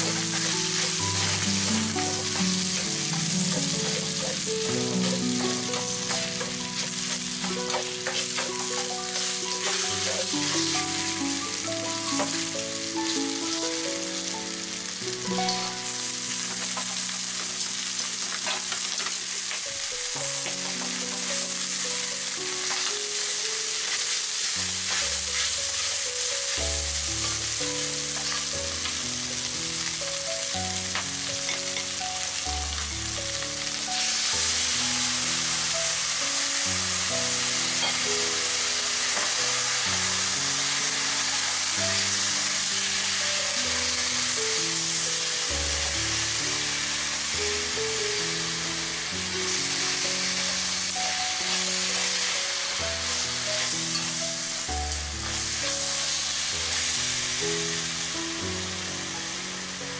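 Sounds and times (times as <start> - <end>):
meat sizzling in a wok: 0.0 - 59.9.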